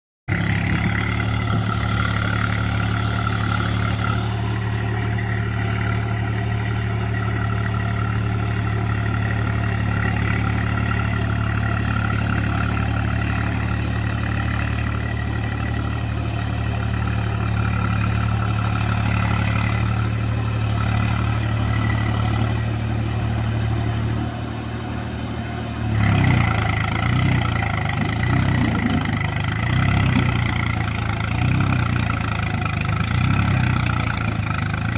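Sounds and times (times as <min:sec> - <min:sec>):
tractor diesel engine under load: 0:00.3 - 0:34.9.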